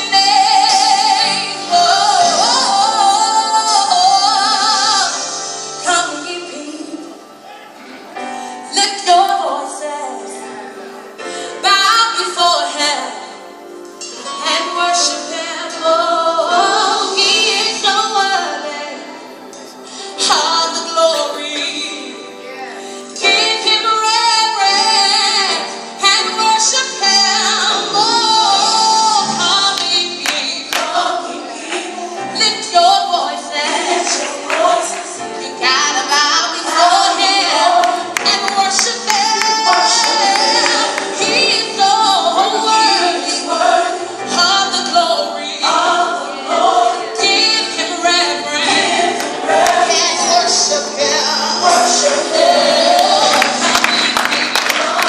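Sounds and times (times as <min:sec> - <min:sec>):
woman singing gospel song: 0:00.0 - 0:07.2, 0:08.6 - 0:10.4, 0:11.6 - 0:13.4, 0:14.1 - 0:19.2, 0:20.1 - 0:55.0.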